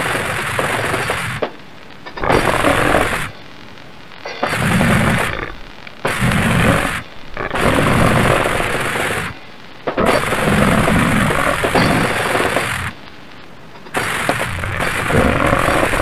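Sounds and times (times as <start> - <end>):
harsh distorted noise blasts: 0.0 - 16.0.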